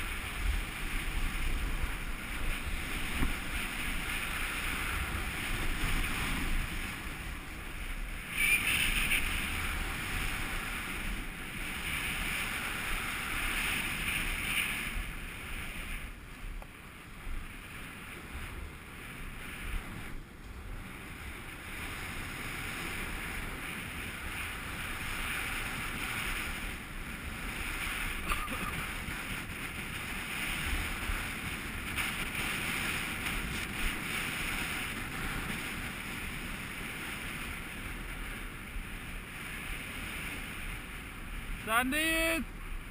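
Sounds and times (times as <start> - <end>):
snow hissing under board: 0.0 - 16.5, 17.1 - 42.9
wind rumbling on microphone: 0.0 - 42.9.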